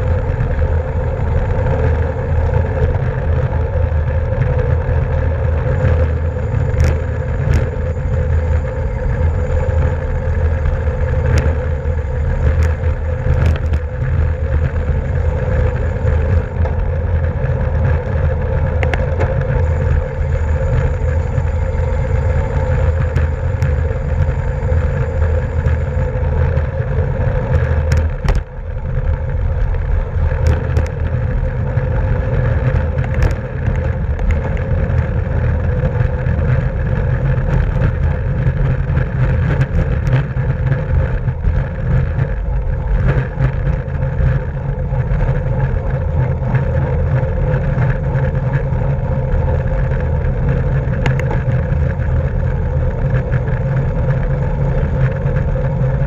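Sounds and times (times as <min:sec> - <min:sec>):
bicycle tyres and drivetrain hum: 0:00.0 - 0:56.0
wind buffeting microphone: 0:00.0 - 0:56.0.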